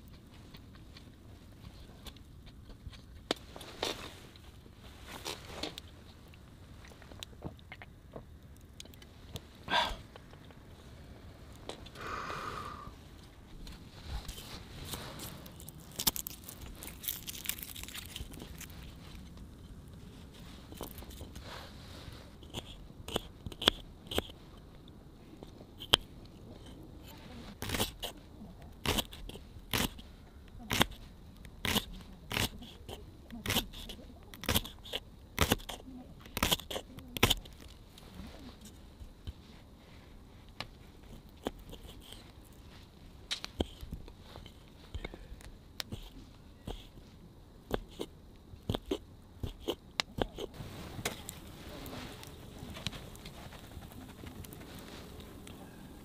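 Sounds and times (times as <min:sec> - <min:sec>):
wood fire hissing and crackling: 0:03.2 - 0:56.0.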